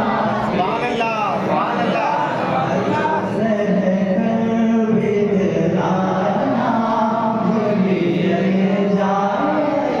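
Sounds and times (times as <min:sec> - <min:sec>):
man singing unaccompanied: 0:01.5 - 0:10.0.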